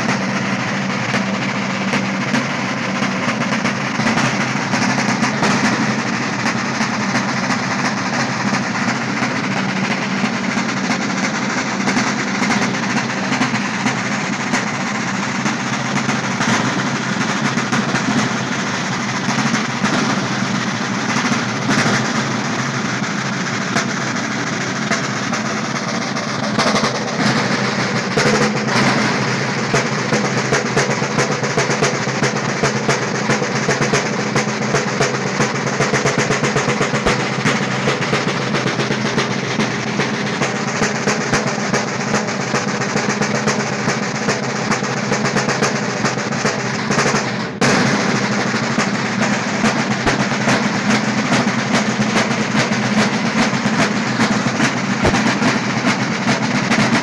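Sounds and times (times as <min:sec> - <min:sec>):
field drums played with sticks: 0:00.0 - 0:57.0.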